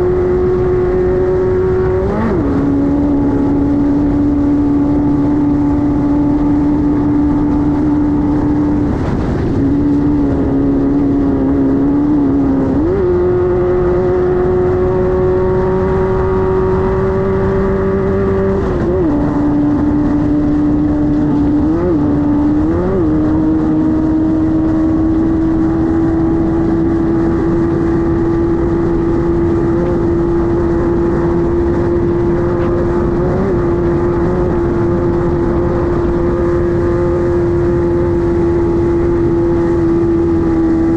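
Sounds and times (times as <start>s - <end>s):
race car engine at high revs: 0.0s - 40.9s
rough road rumble: 0.0s - 40.9s.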